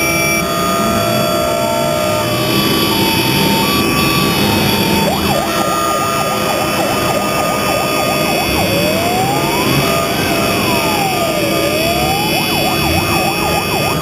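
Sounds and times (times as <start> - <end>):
siren yelping and wailing: 0.0 - 14.0.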